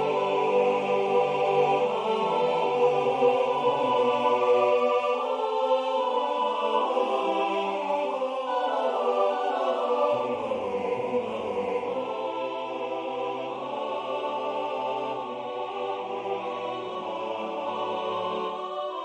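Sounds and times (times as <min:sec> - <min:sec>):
unaccompanied choir singing: 0:00.0 - 0:19.0.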